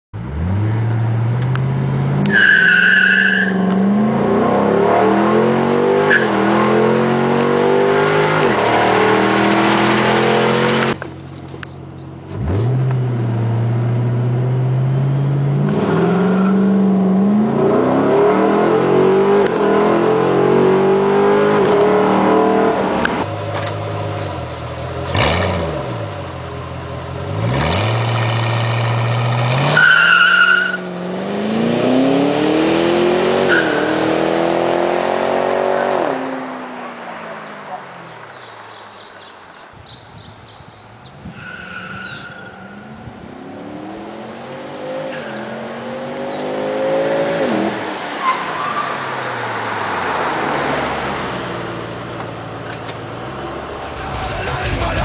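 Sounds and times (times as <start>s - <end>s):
car engine accelerating hard: 0.2s - 37.1s, 42.2s - 55.0s.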